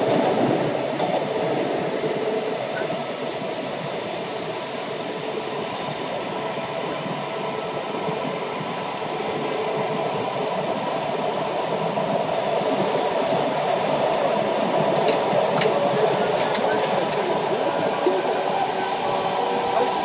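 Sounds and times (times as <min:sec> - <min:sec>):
train running noise from inside carriage: 0:00.0 - 0:20.0.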